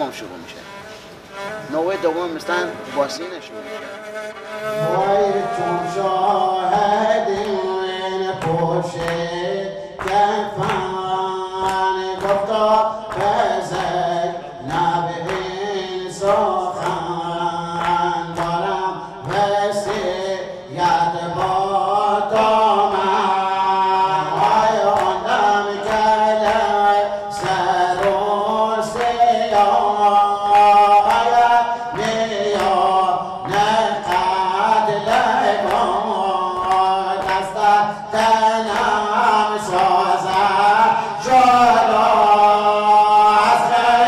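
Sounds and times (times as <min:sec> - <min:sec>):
man singing a lament into microphone: 0:01.4 - 0:44.0.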